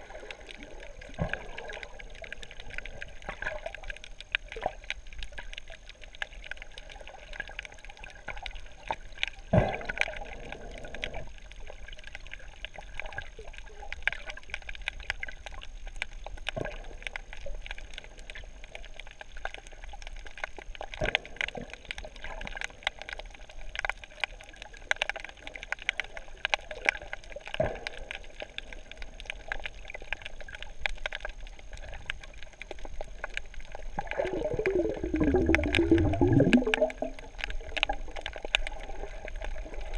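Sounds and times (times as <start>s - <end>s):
gurgling regulator bubbles: 0.0s - 39.9s
underwater crackle of clicks: 0.0s - 39.9s.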